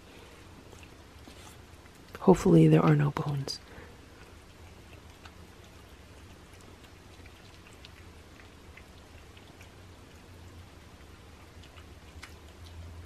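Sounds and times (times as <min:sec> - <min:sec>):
cats licking and chewing: 0:00.0 - 0:13.0.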